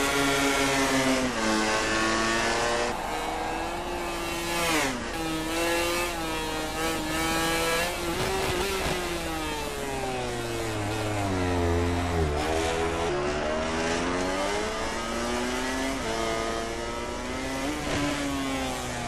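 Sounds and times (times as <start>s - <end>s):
racing motorcycle engines revving: 0.0s - 19.0s.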